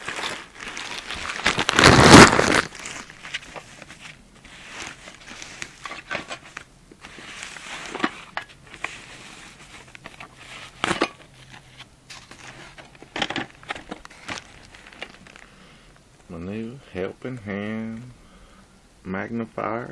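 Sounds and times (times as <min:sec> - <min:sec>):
packaging crinkling and rustling: 0:00.0 - 0:16.3.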